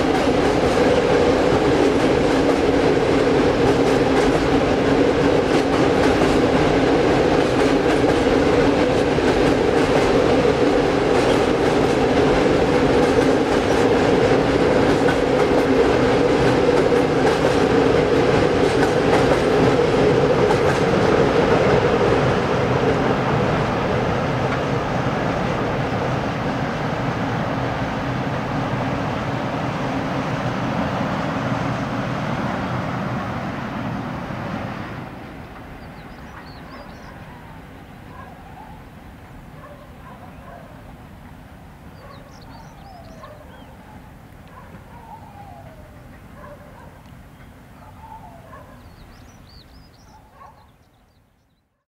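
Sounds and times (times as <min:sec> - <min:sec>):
freight train rumbling over bridge: 0:00.0 - 0:50.2.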